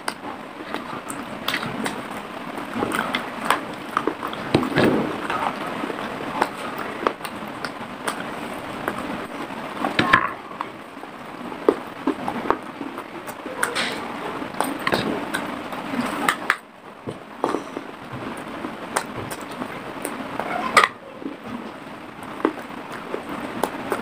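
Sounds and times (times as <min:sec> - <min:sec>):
dry clay being chewed: 0:00.0 - 0:10.0, 0:11.6 - 0:24.0.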